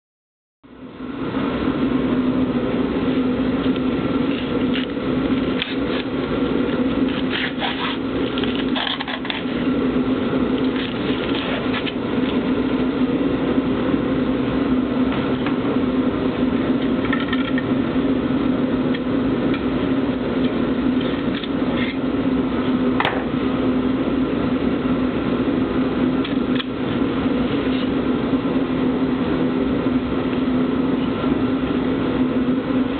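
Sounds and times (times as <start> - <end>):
mechanical hum: 0.6 - 32.9.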